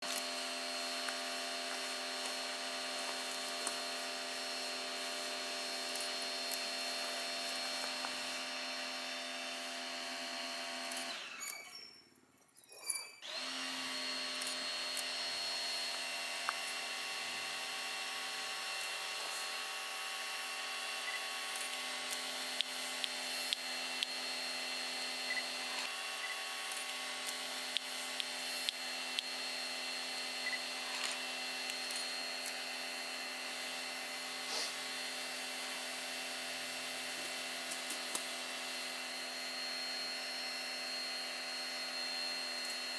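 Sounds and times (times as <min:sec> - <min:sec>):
motor or fan humming: 0:00.0 - 0:11.3, 0:13.2 - 0:42.9.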